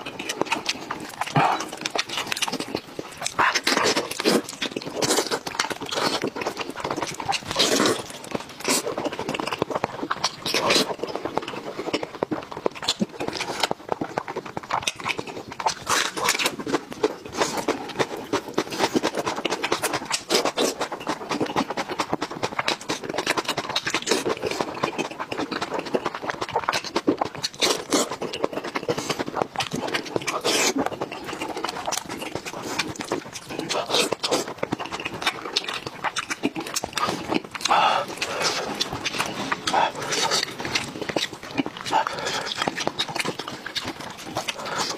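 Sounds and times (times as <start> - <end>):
wet chewing and lip smacking: 0.0 - 44.9.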